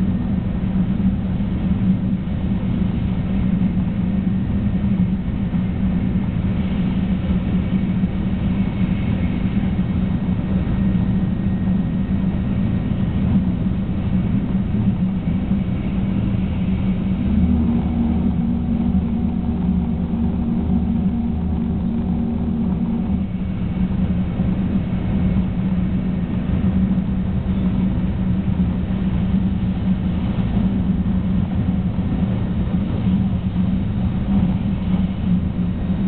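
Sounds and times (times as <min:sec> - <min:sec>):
constant hum: 0:00.0 - 0:36.0
train interior rumble: 0:00.0 - 0:36.0.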